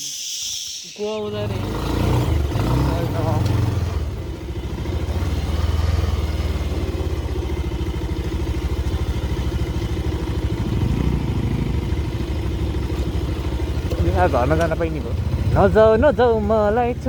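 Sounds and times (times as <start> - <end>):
motorbike engine running: 1.3 - 17.0.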